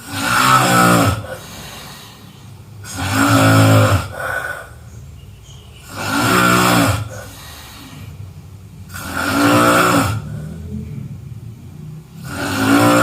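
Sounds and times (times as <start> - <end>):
person snoring: 0.0 - 4.9, 5.8 - 8.2, 8.9 - 13.0
soft breathing: 1.1 - 3.1, 3.8 - 12.8.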